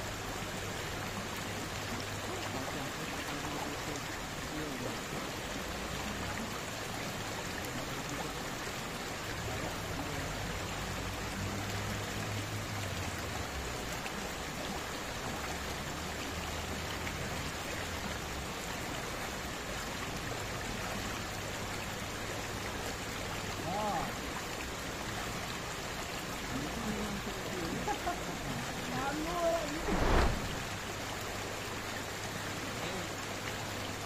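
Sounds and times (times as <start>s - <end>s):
river flowing over rocks: 0.0s - 34.0s.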